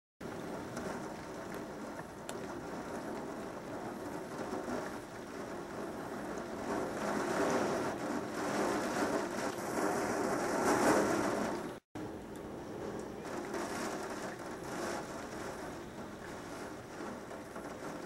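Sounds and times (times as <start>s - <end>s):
heavy rain on window glass: 0.2s - 18.0s.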